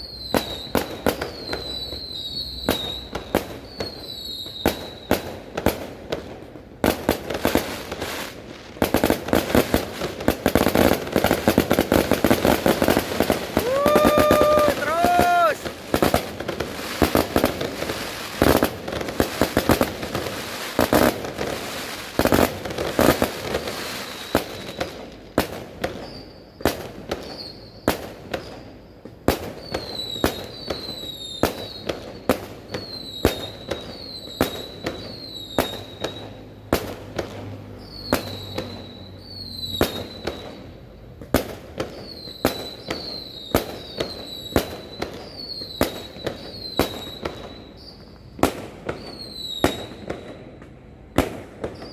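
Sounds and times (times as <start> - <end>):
fireworks bangs and crackling: 0.0 - 51.9
fireworks whistling: 0.0 - 51.9.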